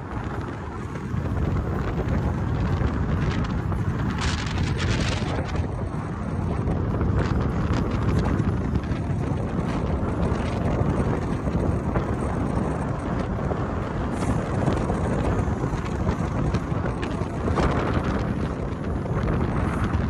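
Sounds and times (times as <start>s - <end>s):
tyre and road noise: 0.0s - 20.0s
wind buffeting microphone: 0.0s - 20.0s.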